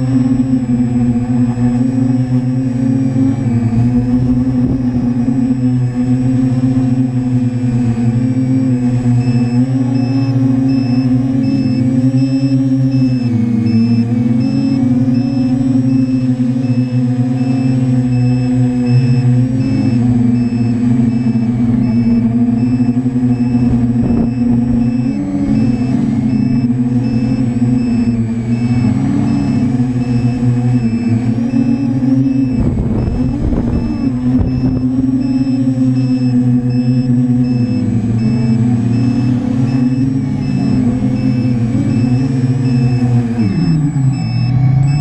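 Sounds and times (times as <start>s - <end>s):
quadcopter motors droning: 0.0s - 45.0s
thin high whine: 0.0s - 45.0s.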